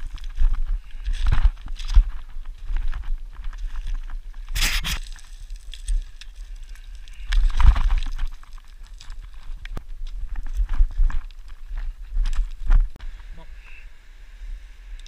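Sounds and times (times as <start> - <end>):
footsteps crunching on rocky ground: 0.0 - 13.0
loud scraping crunches: 0.0 - 13.0
wind rumbling on microphone: 0.0 - 15.0.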